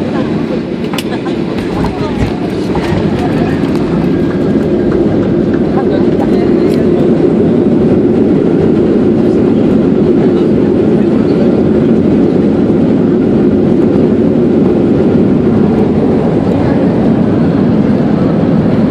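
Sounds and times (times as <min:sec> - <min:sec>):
airliner cabin roar: 0:00.0 - 0:18.9.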